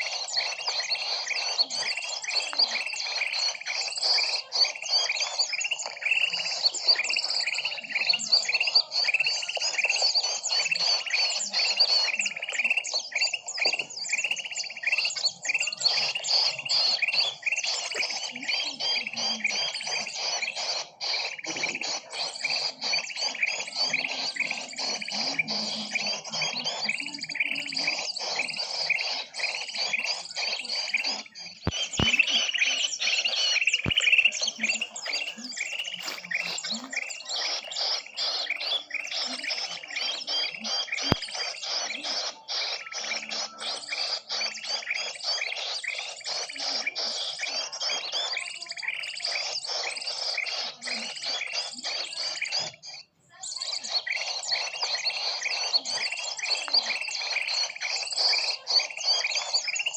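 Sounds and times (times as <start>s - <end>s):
many small birds chirping: 0.0s - 59.9s.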